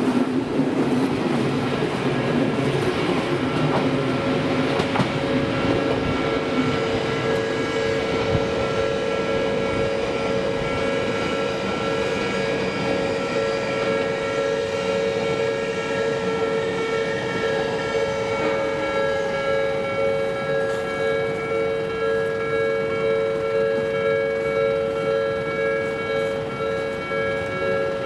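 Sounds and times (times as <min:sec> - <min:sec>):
electric train rumbling past: 0:00.0 - 0:28.0
level crossing warning bell: 0:02.9 - 0:28.0.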